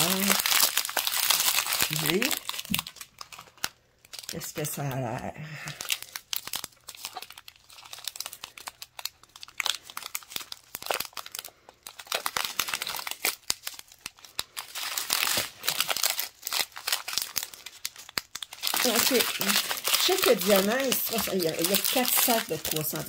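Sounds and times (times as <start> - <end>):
plastic bags crinkling: 0.0 - 23.0.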